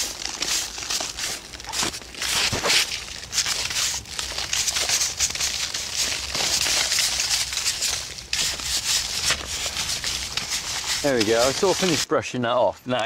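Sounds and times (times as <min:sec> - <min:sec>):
brush scrubbing cement: 0:00.0 - 0:12.1.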